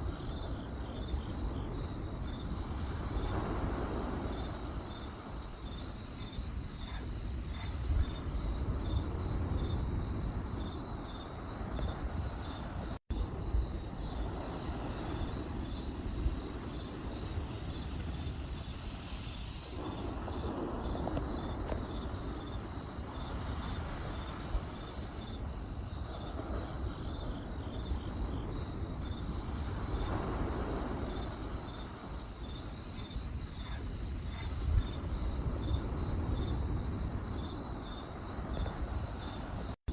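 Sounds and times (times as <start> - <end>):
campfire low rumble: 0.0 - 39.9
crickets chirping: 0.0 - 39.9.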